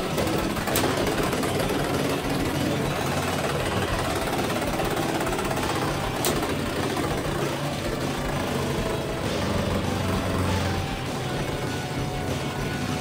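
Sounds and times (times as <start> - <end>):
spinning tops whirring rattle: 0.0 - 13.0.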